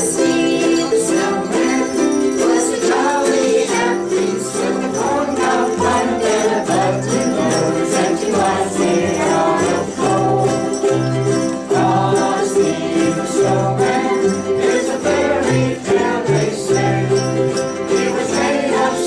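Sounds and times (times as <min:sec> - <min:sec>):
group singing: 0:00.0 - 0:19.0
sleigh bells jingling in rhythm: 0:00.0 - 0:19.0
ukuleles strumming: 0:00.0 - 0:19.0.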